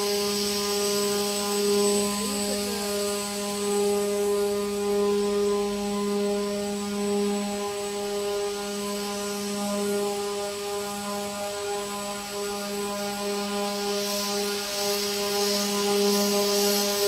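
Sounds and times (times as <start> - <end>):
hiss: 0.0 - 17.0.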